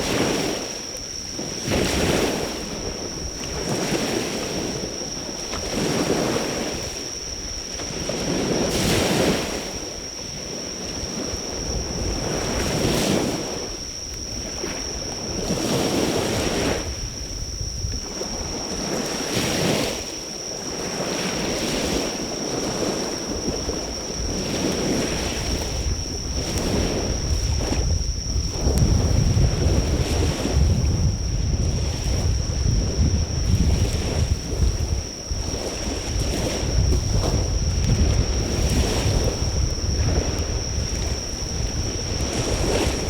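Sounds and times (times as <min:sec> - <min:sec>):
insects calling high-pitched: 0:00.0 - 0:43.0
sea waves washing onto shore: 0:00.0 - 0:43.0
wind rumble on microphone: 0:00.0 - 0:43.0.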